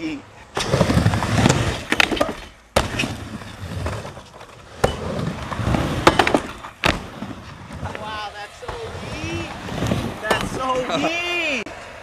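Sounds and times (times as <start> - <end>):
skateboard wheels rolling on ramp: 0.5 - 12.0.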